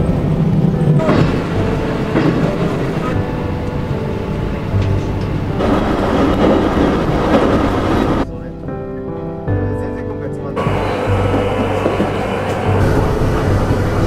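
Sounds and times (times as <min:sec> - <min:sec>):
wheel clacks: 0:00.0 - 0:08.2, 0:10.6 - 0:14.0
train rumbling on rails: 0:00.0 - 0:08.8, 0:10.6 - 0:14.0
steady tones: 0:00.0 - 0:14.0.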